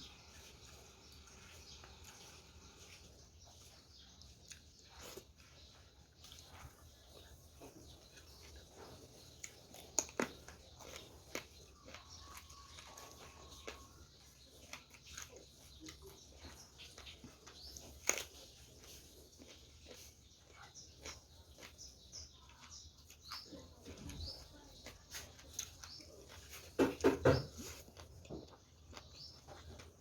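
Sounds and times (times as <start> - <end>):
birds chirping: 0.0 - 30.0
person chewing food: 0.0 - 30.0.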